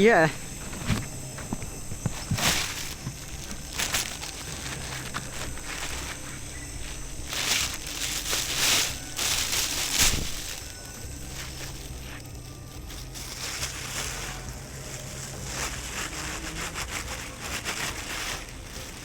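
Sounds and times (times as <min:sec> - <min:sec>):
rustling and crinkling: 0:00.0 - 0:19.0.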